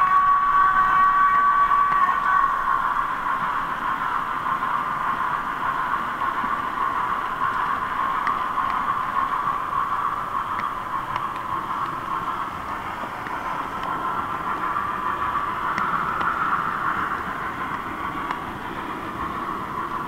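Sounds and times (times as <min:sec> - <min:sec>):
model train whirring: 0:00.0 - 0:20.0
faint irregular clicks: 0:03.3 - 0:20.0.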